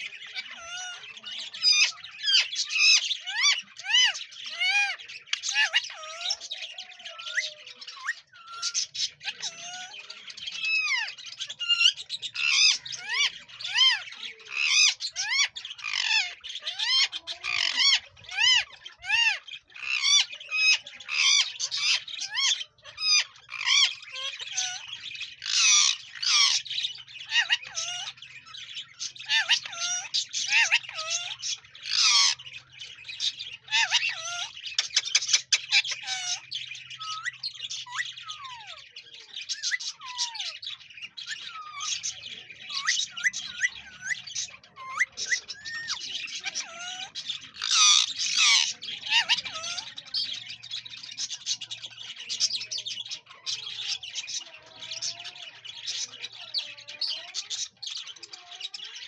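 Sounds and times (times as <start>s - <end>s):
parakeet squawking and chirping: 0.0s - 59.0s.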